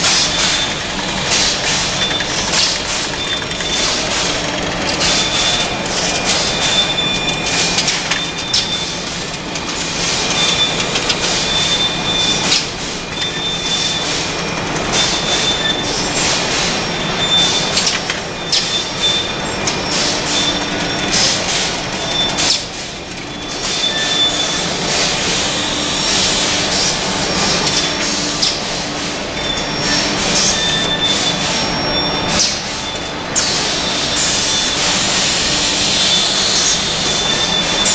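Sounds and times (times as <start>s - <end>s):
steady machine noise: 0.0s - 37.9s.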